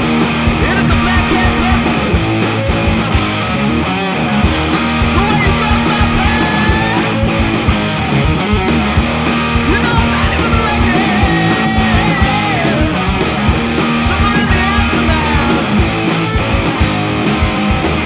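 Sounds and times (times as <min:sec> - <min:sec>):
punk rock song: 0:00.0 - 0:18.0.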